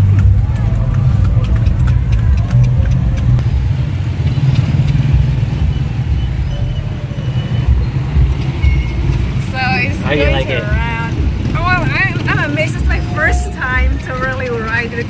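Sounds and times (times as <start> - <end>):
horse-drawn carriage rolling: 0.0 - 15.0.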